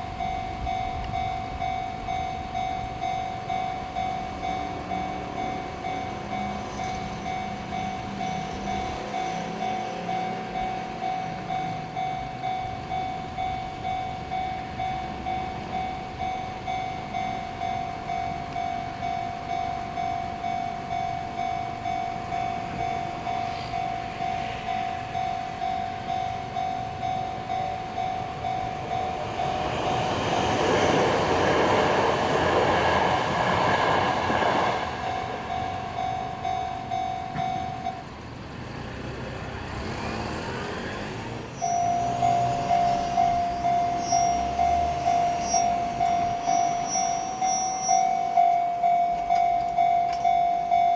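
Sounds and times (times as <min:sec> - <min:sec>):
level-crossing warning bell: 0:00.0 - 0:39.1, 0:39.8 - 0:50.9
electric train passing: 0:00.0 - 0:50.9.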